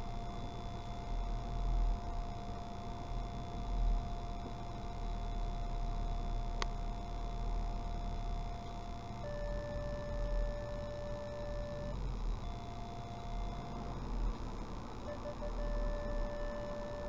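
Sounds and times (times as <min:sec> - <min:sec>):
thin steady whine: 0:00.0 - 0:17.0.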